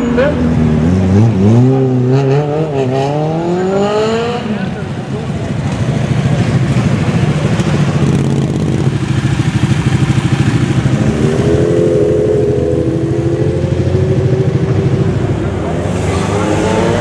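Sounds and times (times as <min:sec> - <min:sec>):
motorcycle engine revving up: 0:00.0 - 0:17.0
motorcycle passing at low revs: 0:00.0 - 0:17.0.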